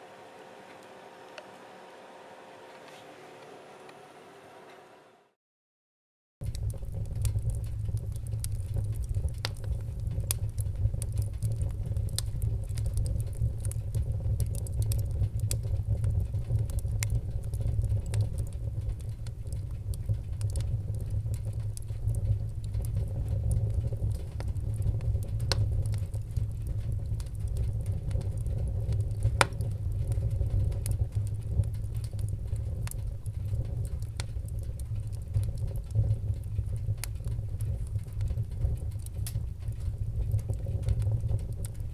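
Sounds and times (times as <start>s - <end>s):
wood fire roaring: 0.0s - 5.1s, 6.4s - 41.9s
fire crackling and popping: 6.4s - 41.9s.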